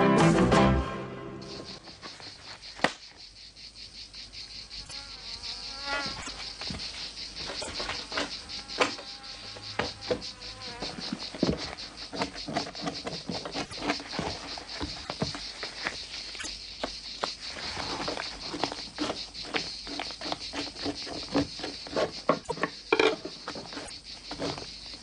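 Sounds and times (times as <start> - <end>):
insects chirring: 0.7 - 25.0.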